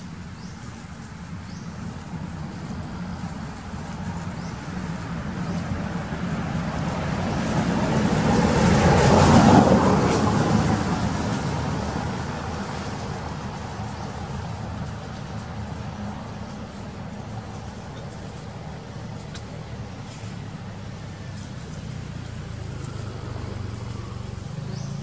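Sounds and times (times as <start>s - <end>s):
vehicle driving past: 2.3s - 25.0s.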